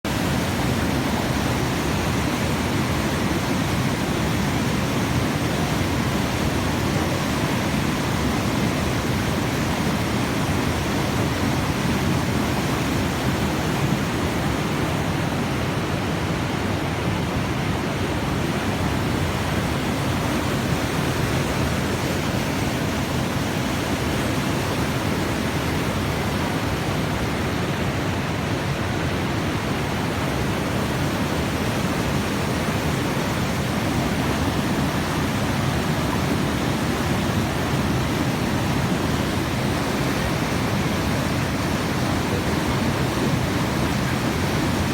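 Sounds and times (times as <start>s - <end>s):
rushing natural ambience: 0.0s - 44.9s.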